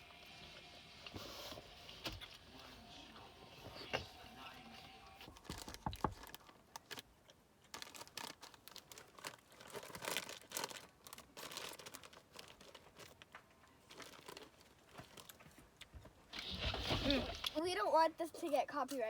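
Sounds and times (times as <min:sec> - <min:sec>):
food packaging crinkling: 0:01.1 - 0:17.6.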